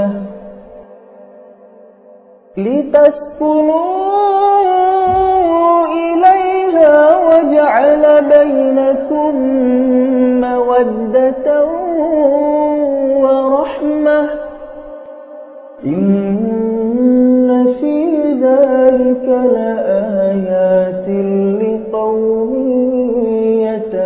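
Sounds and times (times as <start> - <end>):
solo voice chanting: 0.0 - 24.0.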